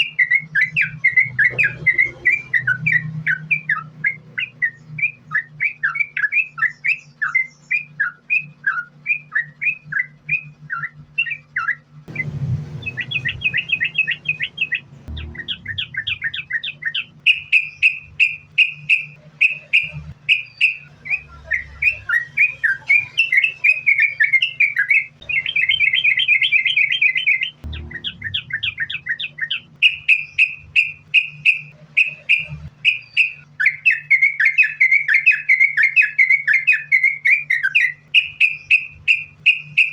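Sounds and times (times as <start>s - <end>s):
bird chirping and trilling: 0.0s - 39.9s
low steady hum: 0.0s - 39.9s.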